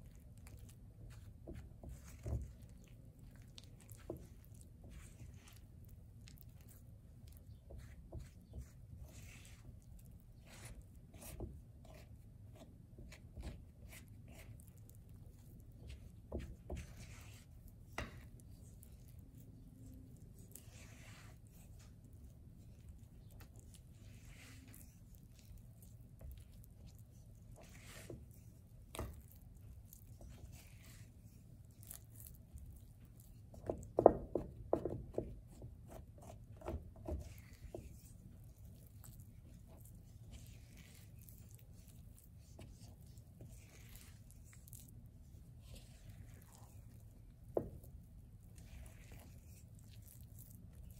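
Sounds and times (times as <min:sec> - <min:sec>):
spatula scraping dough in bowl: 0:00.1 - 0:50.9.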